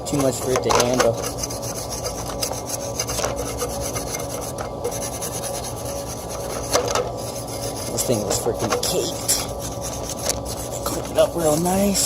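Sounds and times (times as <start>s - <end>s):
scraping and rubbing dirt: 0.1s - 12.0s.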